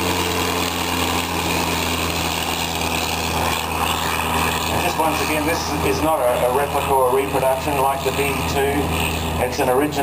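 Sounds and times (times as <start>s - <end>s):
biplane engine droning overhead: 0.0s - 10.0s.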